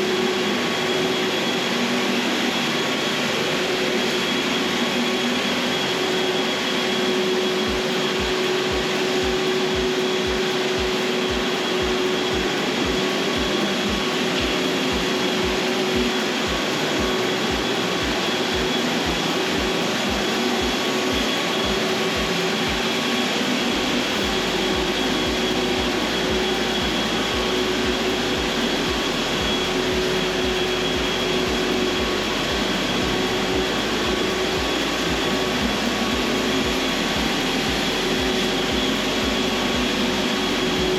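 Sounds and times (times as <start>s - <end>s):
floor machine motor whining: 0.0s - 40.9s.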